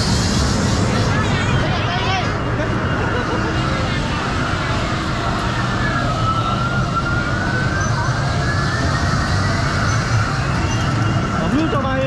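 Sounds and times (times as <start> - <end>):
whine rising in pitch: 0.0 - 12.0.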